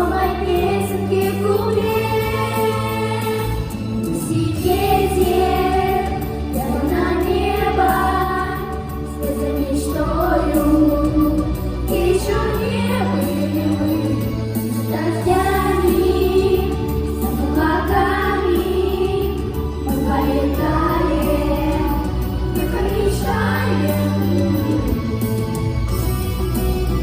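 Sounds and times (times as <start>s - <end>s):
pop song with choir vocals: 0.0s - 27.0s.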